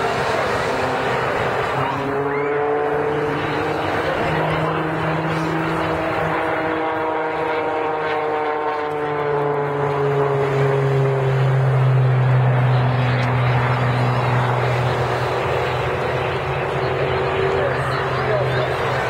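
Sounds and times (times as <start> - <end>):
biplane engine droning overhead: 0.0 - 19.0.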